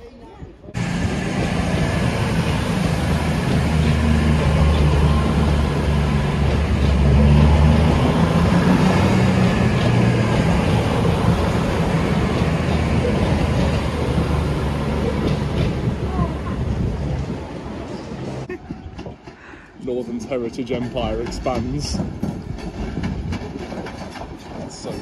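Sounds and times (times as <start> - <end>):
diesel train passing: 0.7 - 25.0.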